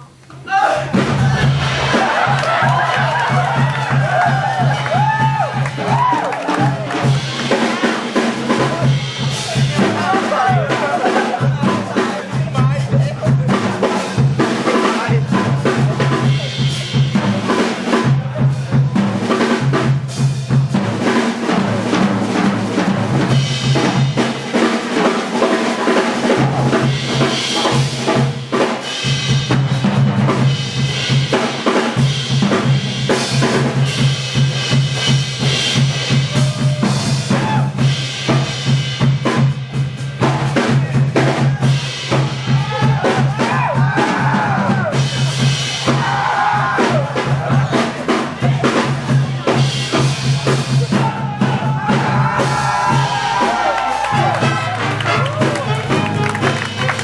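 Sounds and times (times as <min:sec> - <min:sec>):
drum kit hits: 0:00.0 - 0:57.0
jazz big band playing: 0:00.9 - 0:57.0.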